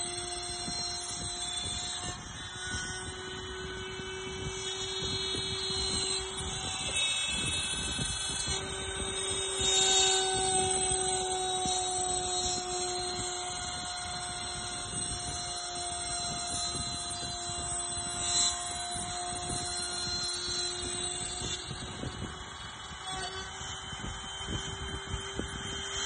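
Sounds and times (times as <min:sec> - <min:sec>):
cnc router spindle whine: 0:00.0 - 0:26.0
cutter scraping: 0:00.0 - 0:26.0.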